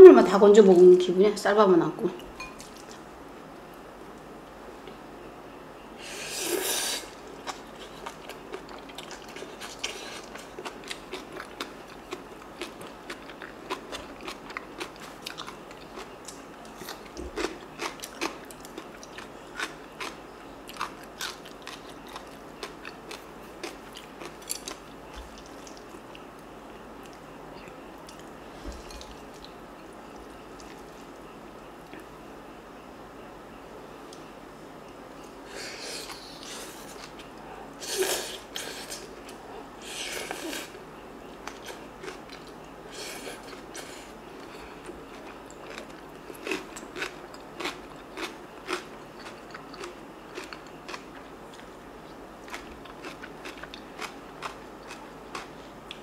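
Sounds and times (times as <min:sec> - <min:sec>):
crunchy chewing: 0:06.4 - 0:32.1, 0:35.5 - 0:56.0.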